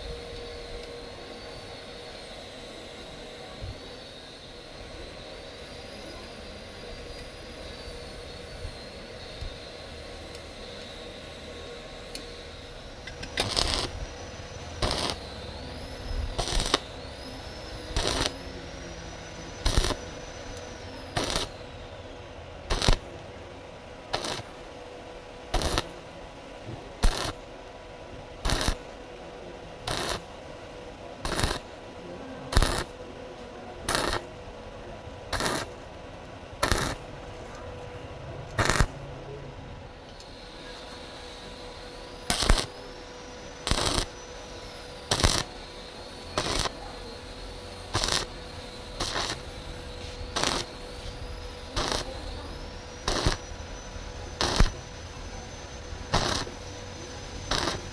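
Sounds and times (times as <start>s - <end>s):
welding arc crackling: 3.8s - 57.9s.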